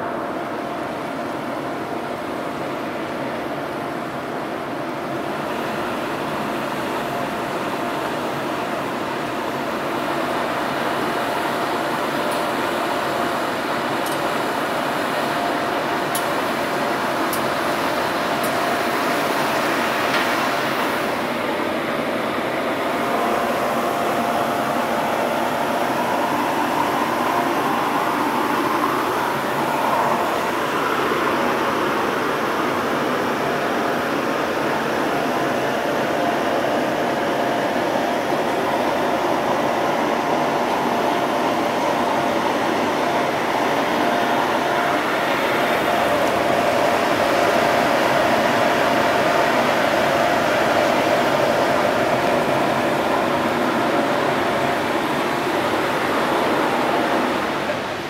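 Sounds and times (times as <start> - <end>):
ship machinery hum: 0.0 - 58.0.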